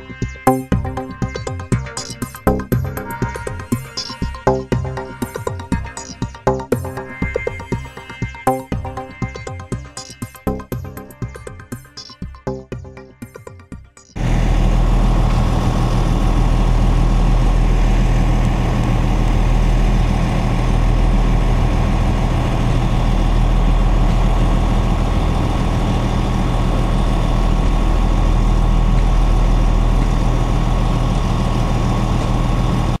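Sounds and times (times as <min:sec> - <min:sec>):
engine-like idling drone: 0:00.0 - 0:33.0.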